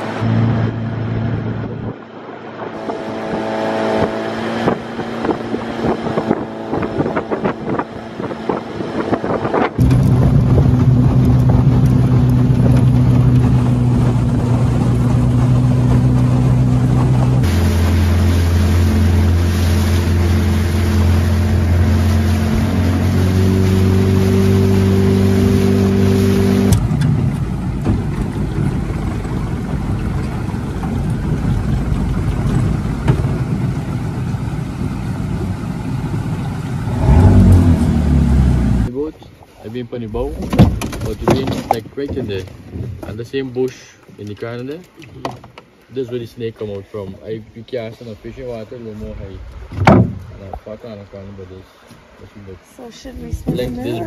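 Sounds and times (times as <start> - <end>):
outboard motor humming: 0.0 - 54.0
rush of wind and water: 0.0 - 54.0.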